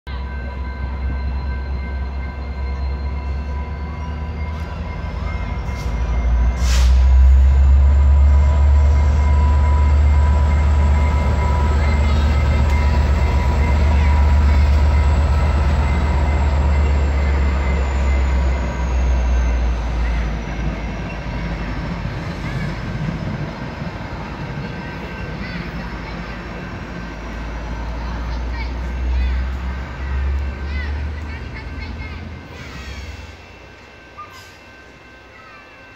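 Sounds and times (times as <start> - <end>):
diesel locomotive engine rumble: 0.1 - 35.9.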